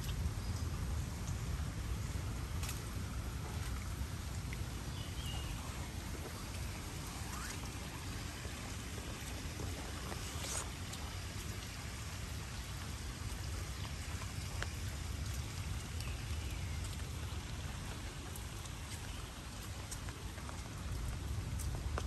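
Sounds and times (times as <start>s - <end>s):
light rain on foliage: 0.0s - 22.0s
low steady rumble: 0.0s - 22.0s
raindrops ticking: 0.0s - 22.0s.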